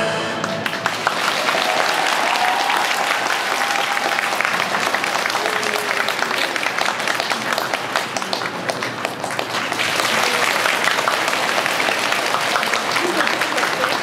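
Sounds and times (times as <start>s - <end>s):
audience clapping: 0.4s - 14.0s.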